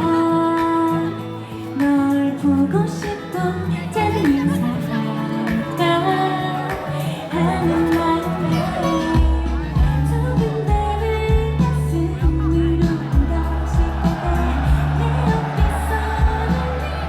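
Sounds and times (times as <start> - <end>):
pop backing track with beat: 0.0 - 17.0
woman singing: 0.0 - 17.0.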